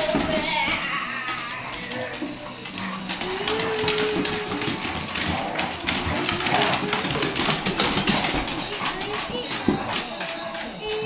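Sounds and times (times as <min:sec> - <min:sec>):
dog claws clattering on wood floor: 0:00.0 - 0:11.0.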